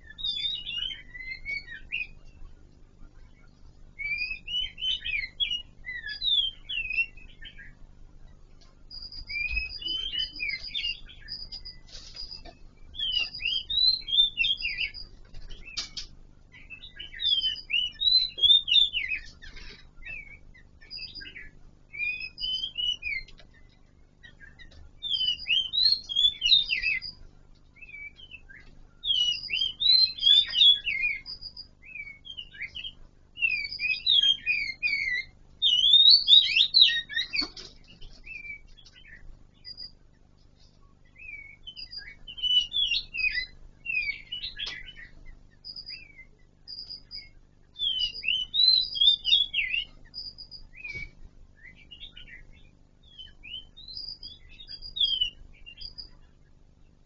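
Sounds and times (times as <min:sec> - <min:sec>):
bird whistled song phrases: 0:00.0 - 0:02.2, 0:04.0 - 0:07.8, 0:08.9 - 0:23.3, 0:24.2 - 0:27.2, 0:27.8 - 0:40.0, 0:41.0 - 0:56.3.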